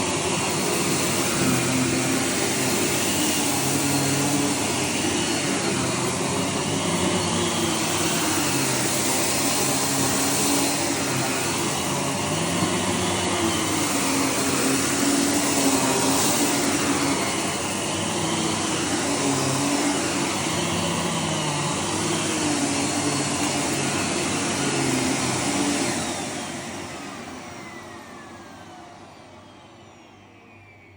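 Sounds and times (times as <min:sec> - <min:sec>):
vacuum cleaner running on carpet: 0:00.0 - 0:30.9
vacuum motor winding down: 0:00.0 - 0:30.9.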